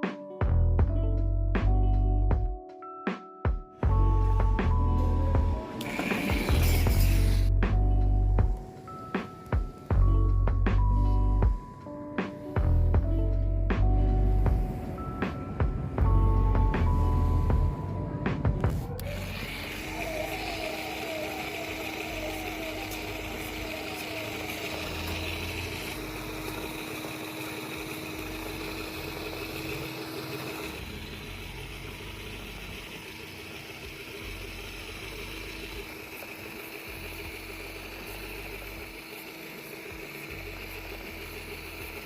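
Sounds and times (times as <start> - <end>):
small motor whining: 3.8 - 42.0.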